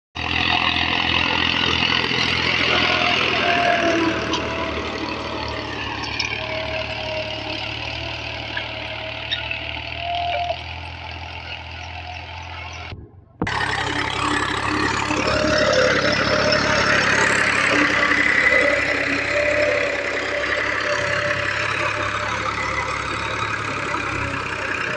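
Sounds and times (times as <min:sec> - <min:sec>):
tractor diesel engine under load: 0:00.2 - 0:24.9.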